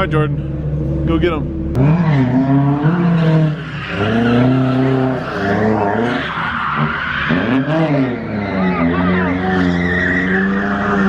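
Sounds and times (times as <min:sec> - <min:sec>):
car engines revving: 0:00.0 - 0:11.0
tires squealing: 0:01.8 - 0:11.0.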